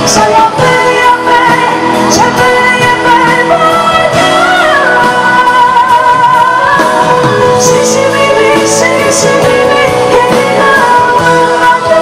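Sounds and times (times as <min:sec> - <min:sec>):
band with keyboard and guitar: 0:00.0 - 0:12.0
woman singing: 0:00.0 - 0:12.0.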